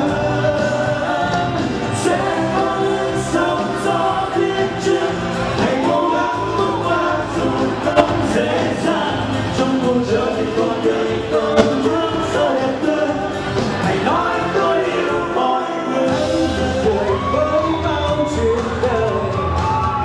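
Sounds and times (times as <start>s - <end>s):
voices singing in harmony: 0.0s - 19.0s
pop band backing: 0.0s - 20.0s.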